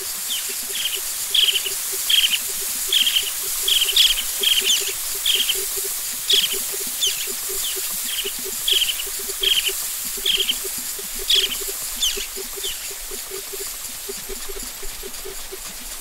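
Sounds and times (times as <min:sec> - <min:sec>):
birds chirping: 0:00.0 - 0:14.8
steady high hiss: 0:00.0 - 0:16.0
low pulsing bird call: 0:00.1 - 0:15.1.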